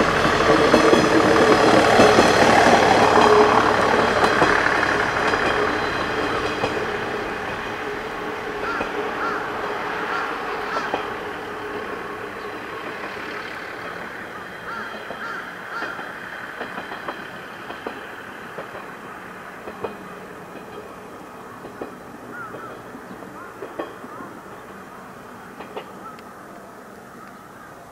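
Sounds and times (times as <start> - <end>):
diesel railcar running: 0.0 - 27.9
wheels clicking on rails: 0.0 - 27.9.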